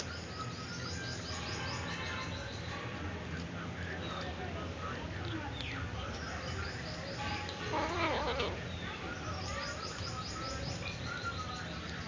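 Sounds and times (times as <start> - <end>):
small birds chirping: 0.0 - 2.8, 3.8 - 12.0.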